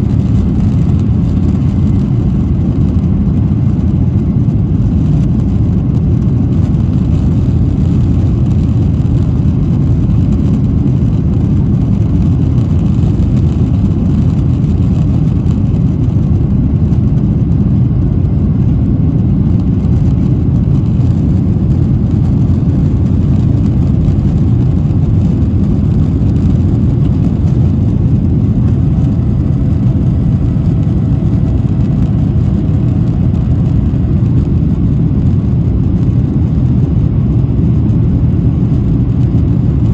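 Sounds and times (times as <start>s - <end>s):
jet cabin engine and air noise: 0.0s - 39.9s.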